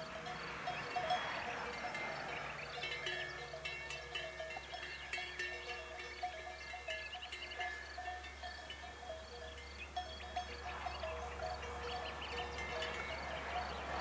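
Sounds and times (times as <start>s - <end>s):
livestock bells clanking: 0.0s - 14.0s.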